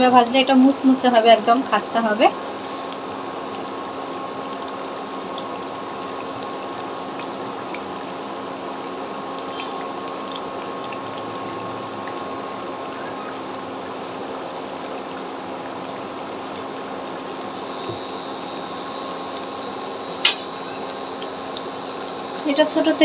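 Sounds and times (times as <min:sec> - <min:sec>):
oil sizzling: 0:00.0 - 0:23.0.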